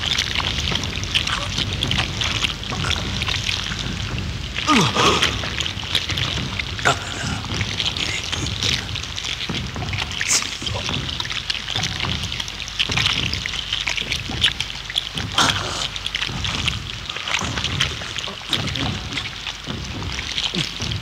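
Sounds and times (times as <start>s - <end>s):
thick liquid sloshing and squelching: 0.0s - 21.0s.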